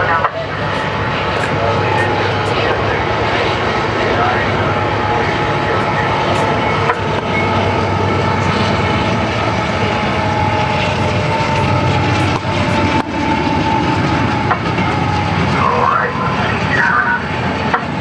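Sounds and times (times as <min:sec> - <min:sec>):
locomotive engines rumbling: 0:00.0 - 0:18.0.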